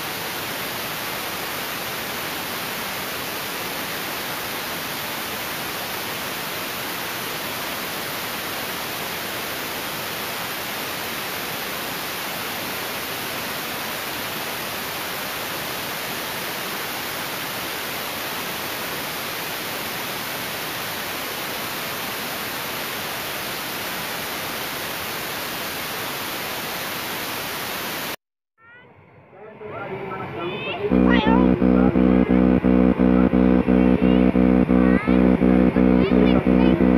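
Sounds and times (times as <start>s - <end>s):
steady static hiss: 0.0s - 28.2s, 30.1s - 36.9s.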